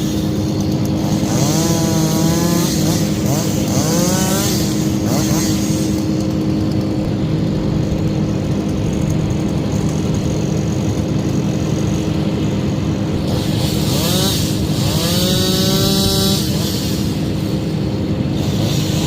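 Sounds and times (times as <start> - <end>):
small engine revving: 0.0 - 19.0
steady engine drone: 0.0 - 19.0.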